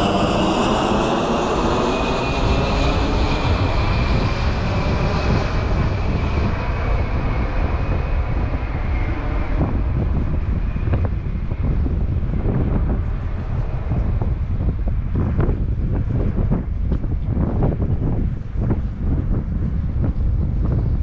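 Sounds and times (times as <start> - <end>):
airplane flying over: 0.0 - 21.0
wind on microphone: 0.0 - 21.0.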